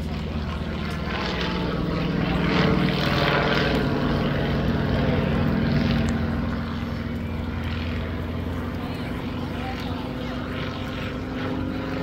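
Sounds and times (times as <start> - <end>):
propeller airplane flying past: 0.0 - 12.0.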